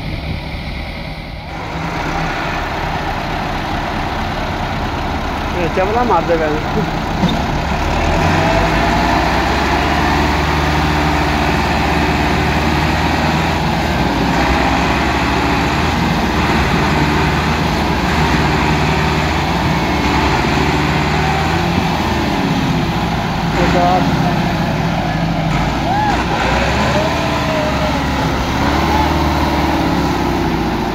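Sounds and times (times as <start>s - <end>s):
diesel tractor engines straining: 0.0s - 30.9s.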